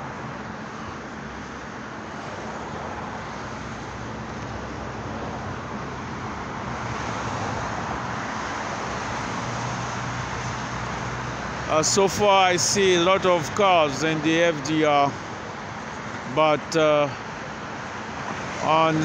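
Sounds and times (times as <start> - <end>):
highway traffic roar: 0.0 - 19.0.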